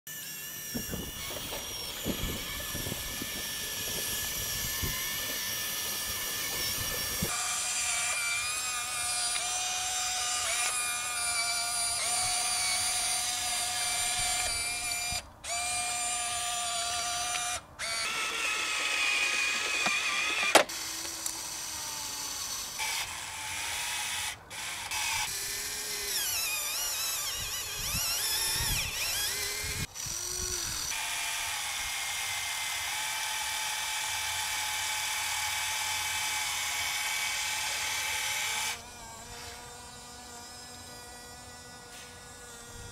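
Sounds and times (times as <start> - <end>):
electric motors whining: 0.1 - 42.9.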